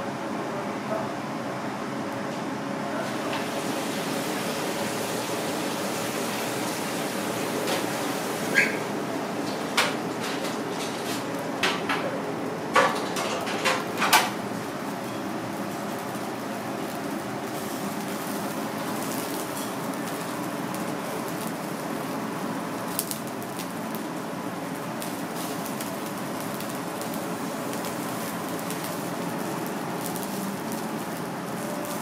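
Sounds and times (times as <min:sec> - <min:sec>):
kitchen hiss: 0:03.0 - 0:10.0, 0:13.0 - 0:32.0.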